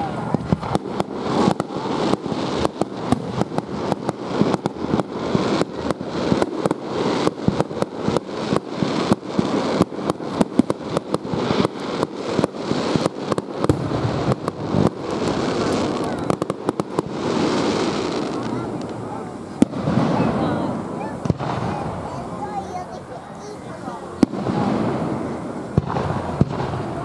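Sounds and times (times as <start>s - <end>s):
fireworks bangs: 0.0s - 27.0s
fireworks crackling: 0.0s - 27.0s.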